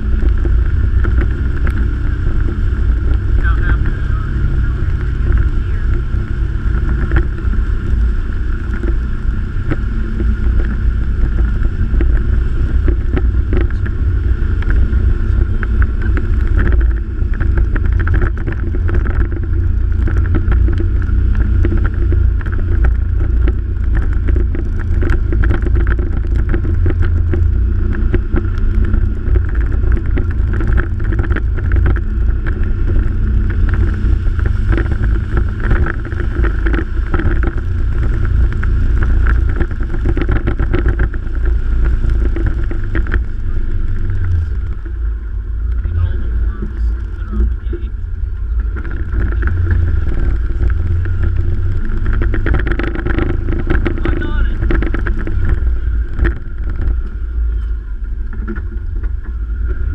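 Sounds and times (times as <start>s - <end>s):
wind on microphone: 0.0s - 59.9s.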